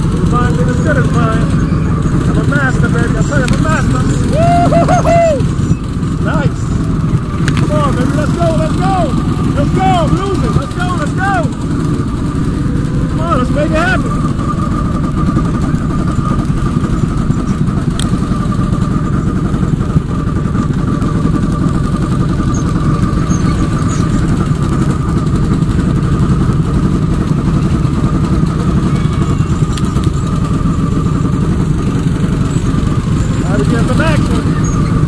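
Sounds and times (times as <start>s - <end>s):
go-kart engine running: 0.0s - 35.0s.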